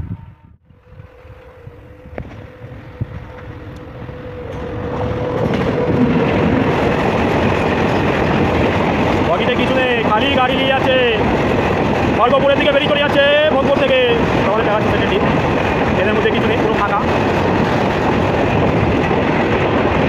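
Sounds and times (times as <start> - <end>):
freight train passing: 0.0 - 20.0
wheels rumbling on rail: 0.0 - 20.0.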